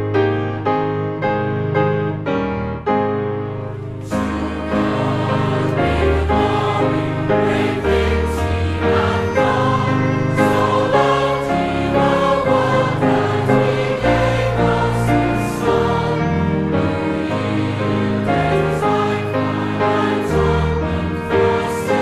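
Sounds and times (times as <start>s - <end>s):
musical accompaniment: 0.0s - 22.0s
choir singing: 4.0s - 22.0s.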